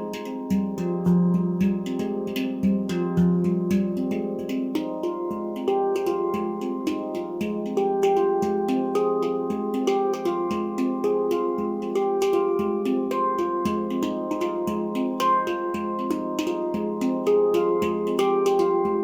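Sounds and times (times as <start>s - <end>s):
handpan notes ringing: 0.0s - 19.0s.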